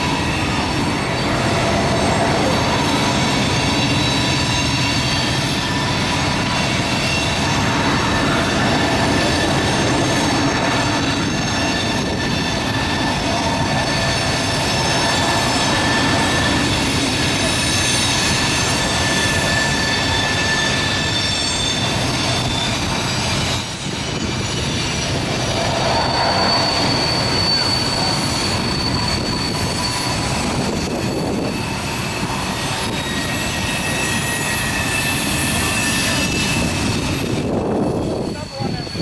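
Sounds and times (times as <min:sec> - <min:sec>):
train wheels rumbling on rail: 0:00.0 - 0:39.0
train wheels squealing: 0:00.0 - 0:39.0.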